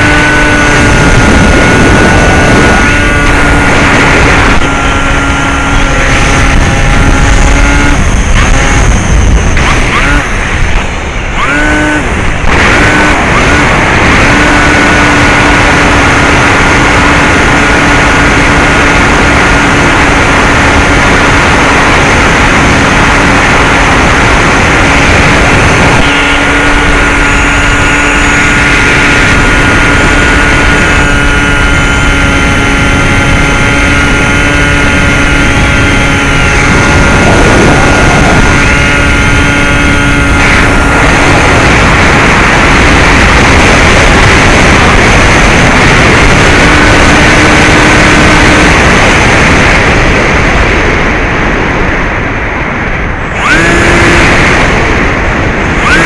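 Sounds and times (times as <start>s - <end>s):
electric motor propeller hum: 0.0s - 56.0s
wind rush: 0.0s - 56.0s.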